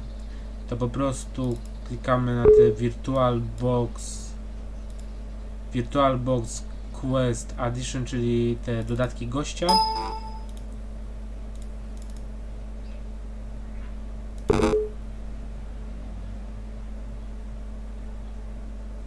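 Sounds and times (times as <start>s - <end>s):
electrical hum and noise: 0.0s - 19.0s.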